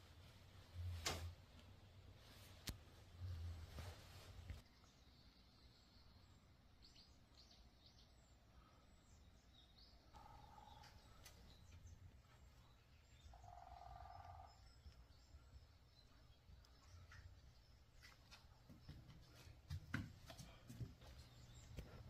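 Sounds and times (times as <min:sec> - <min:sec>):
birds chirping: 0:03.2 - 0:22.0.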